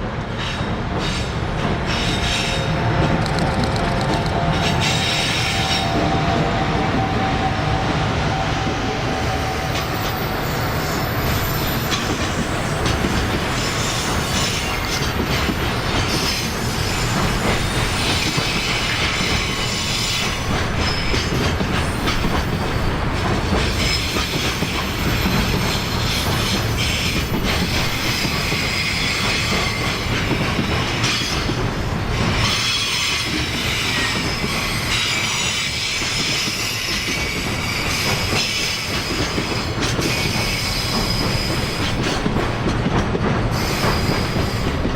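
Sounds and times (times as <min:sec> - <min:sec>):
freight train wheels clattering: 0:00.0 - 0:44.9.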